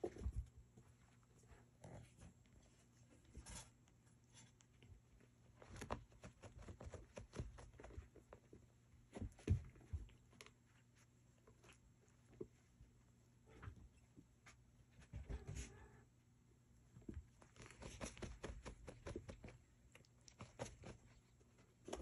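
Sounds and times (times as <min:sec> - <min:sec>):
cat wrestling plush toy on carpet: 0:00.0 - 0:16.0, 0:16.9 - 0:22.0.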